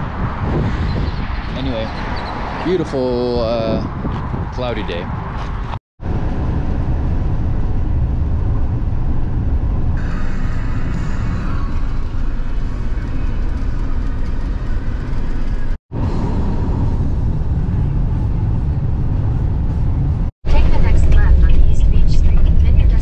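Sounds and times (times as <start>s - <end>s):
bus driving low rumble: 0.0s - 23.0s.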